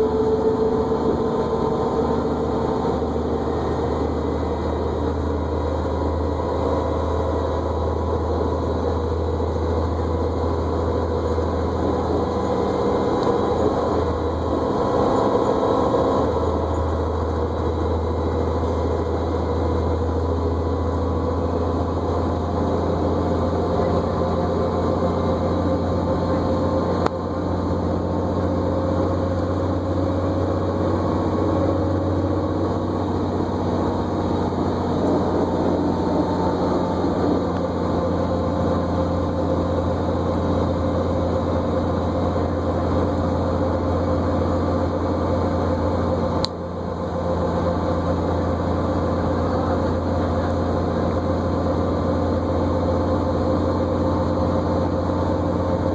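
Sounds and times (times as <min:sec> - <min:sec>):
bus engine drone with whine: 0:00.0 - 0:55.9.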